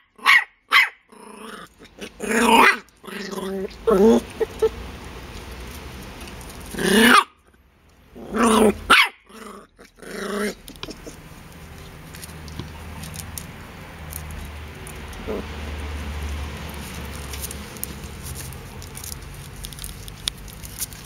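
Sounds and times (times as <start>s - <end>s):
puppies barking and growling: 0.0s - 21.0s.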